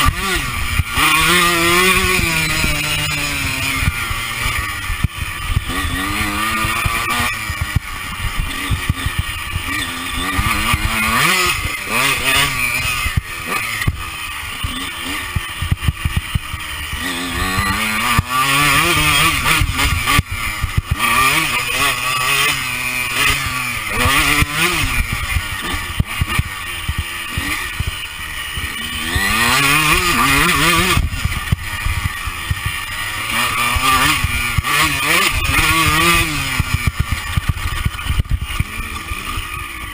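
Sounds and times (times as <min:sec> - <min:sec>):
two-stroke engine revving hard: 0:00.0 - 0:39.9.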